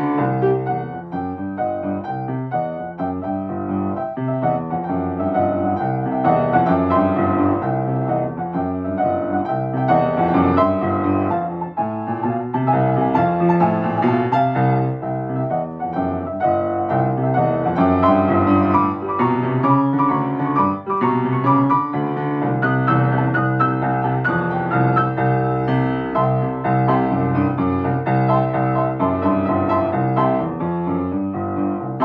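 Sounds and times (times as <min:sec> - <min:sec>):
grand piano playing: 0:00.0 - 0:32.0.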